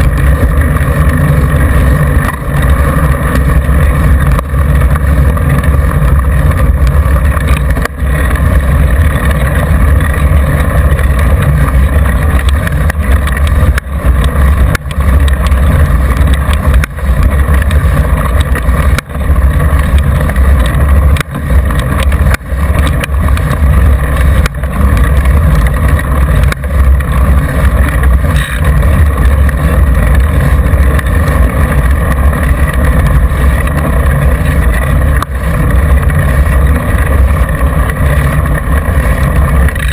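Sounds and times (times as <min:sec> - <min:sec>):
bike tyre rolling on asphalt: 0:00.0 - 0:39.9.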